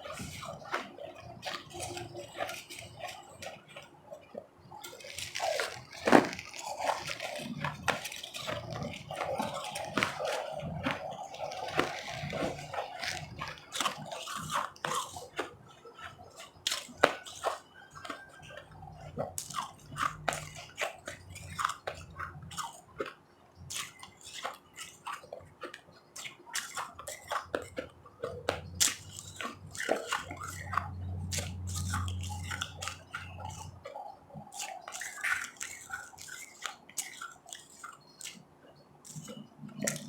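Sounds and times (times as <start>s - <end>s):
ice crunching between teeth: 0.0s - 38.5s, 39.1s - 40.0s.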